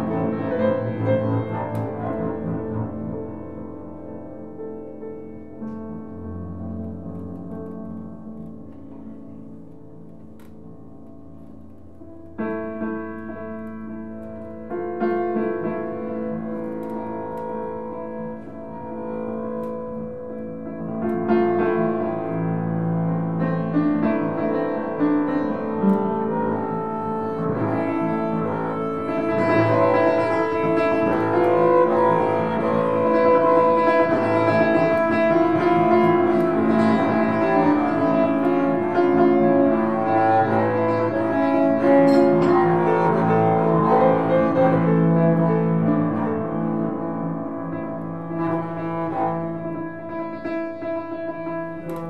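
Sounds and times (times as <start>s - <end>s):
bowed double bass: 0.0s - 52.0s
piano chords: 0.0s - 52.0s.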